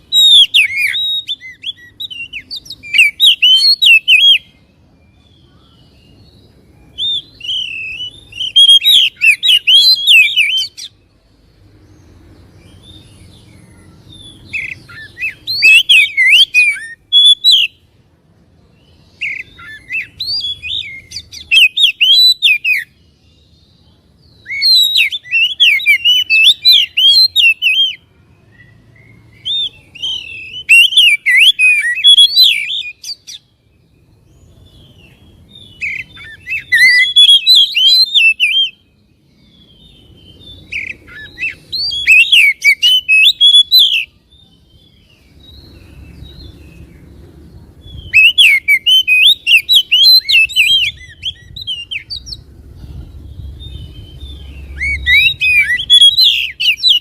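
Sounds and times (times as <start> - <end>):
bird singing whistled song: 0.0 - 18.0, 18.7 - 57.0.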